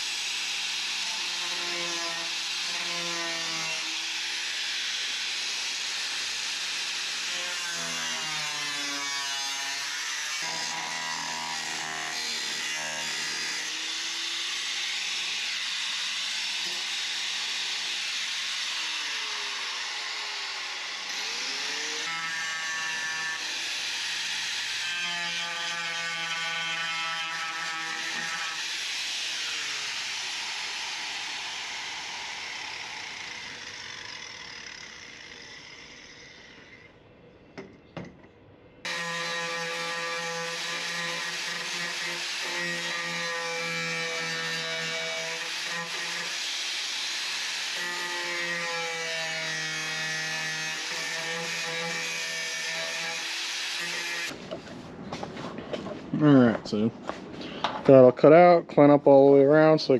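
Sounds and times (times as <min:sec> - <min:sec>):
angle grinder cutting metal: 0:00.0 - 0:36.9, 0:38.8 - 0:54.4.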